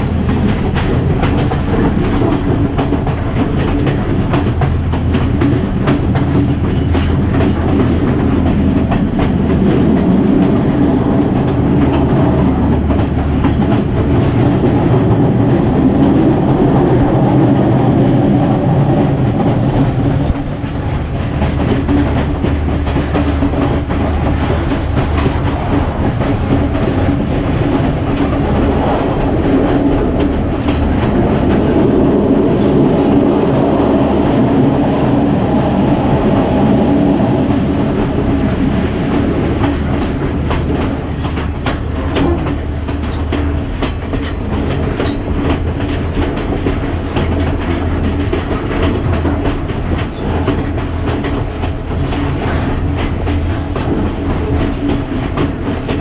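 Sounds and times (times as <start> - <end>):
train carriage rumble and rattle: 0.0 - 56.0
wheels clicking over rail joints: 0.0 - 56.0.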